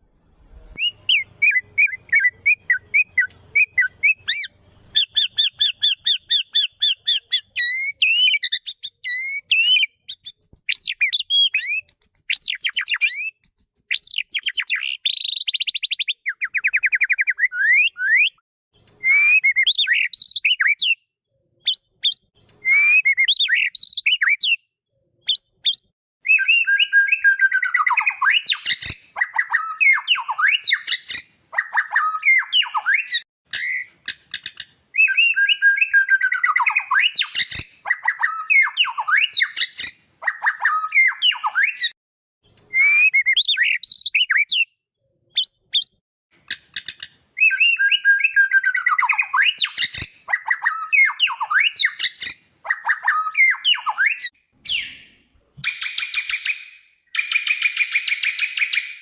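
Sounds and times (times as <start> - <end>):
songbird whistling and trilling: 0.0 - 42.0, 42.6 - 59.0.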